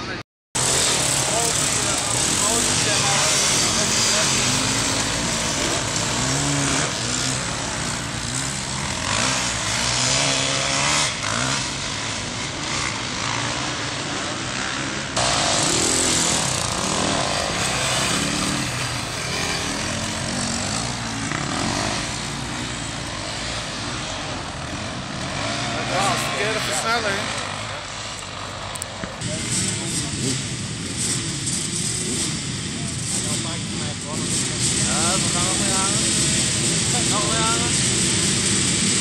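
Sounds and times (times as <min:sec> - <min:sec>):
motocross bike engines revving: 0:00.0 - 0:39.0.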